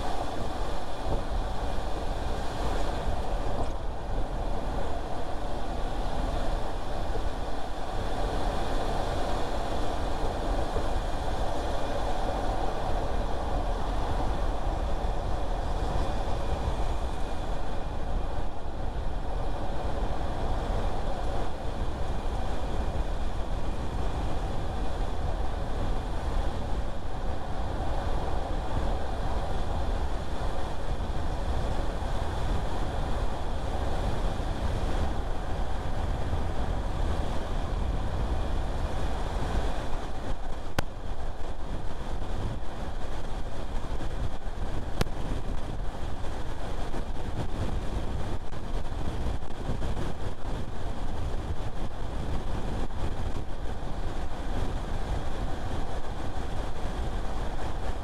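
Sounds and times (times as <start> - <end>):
car tyre road noise: 0.0 - 58.0.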